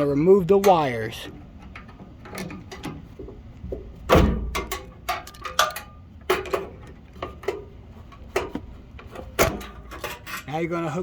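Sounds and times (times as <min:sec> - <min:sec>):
sharp metallic clicks and knocks: 0:00.6 - 0:10.5.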